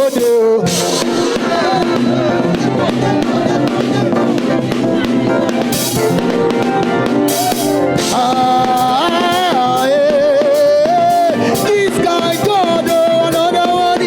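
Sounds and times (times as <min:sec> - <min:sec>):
drum kit with cymbal crashes: 0:00.0 - 0:14.0
gospel band playing: 0:00.0 - 0:14.0
person singing: 0:00.0 - 0:14.0.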